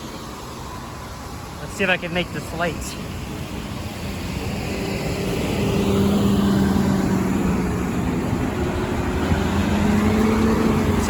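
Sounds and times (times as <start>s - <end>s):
tyres hissing on wet road: 0.0s - 11.0s
vehicle engine drone: 0.0s - 11.0s.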